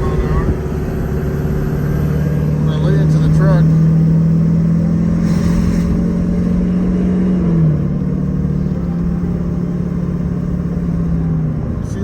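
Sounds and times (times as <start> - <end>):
diesel engine accelerating hard: 0.0 - 12.0.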